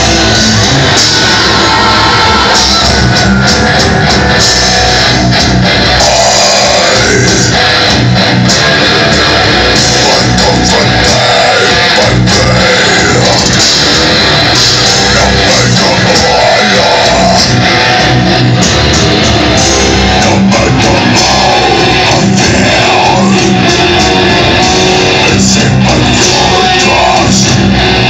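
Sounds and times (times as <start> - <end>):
death metal band playing live: 0.0 - 28.0.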